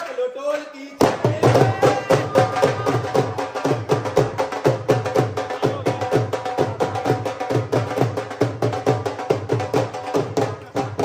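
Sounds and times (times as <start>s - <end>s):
drums beating fast: 1.0s - 11.0s.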